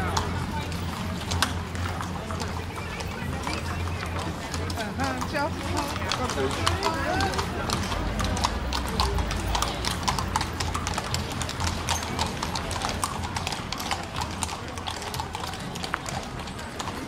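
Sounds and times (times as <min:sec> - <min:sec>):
hooves clip-clopping on cobblestones: 0:00.0 - 0:17.0.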